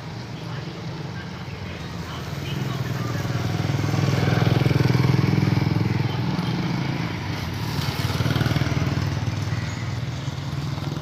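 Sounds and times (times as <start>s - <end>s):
small vehicle engine running: 1.9s - 11.0s.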